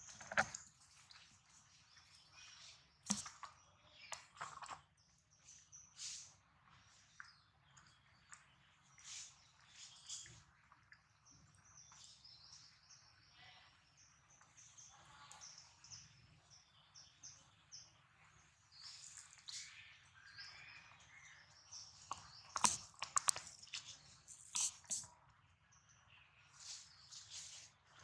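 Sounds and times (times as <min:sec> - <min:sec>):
faint high chirping calls: 0:05.4 - 0:28.0.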